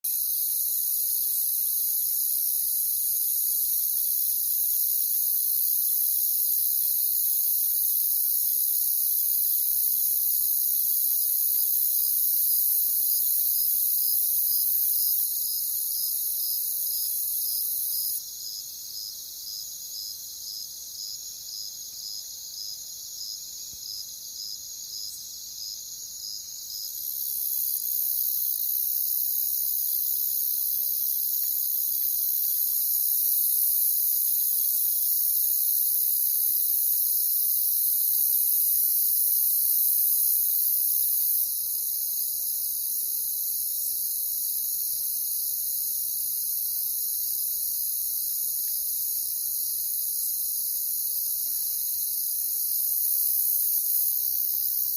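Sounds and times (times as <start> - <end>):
crickets chirping chorus: 0.1 - 54.9
single repeating cricket chirp: 0.1 - 54.9.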